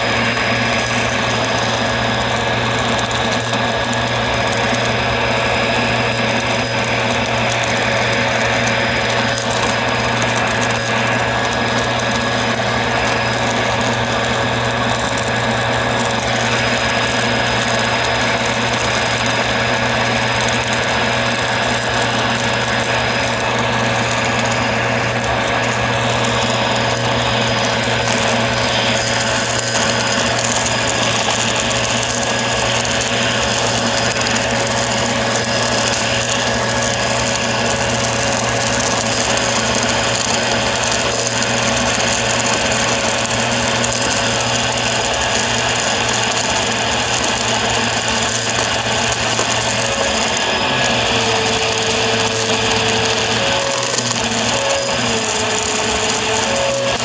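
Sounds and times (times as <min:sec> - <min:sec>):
debris rattling up vacuum: 0:00.0 - 0:57.0
vacuum cleaner motor whine: 0:00.0 - 0:57.0.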